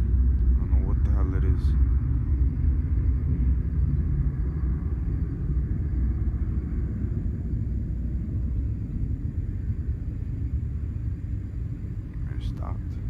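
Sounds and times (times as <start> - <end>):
low rumble from the sky: 0.0 - 13.0.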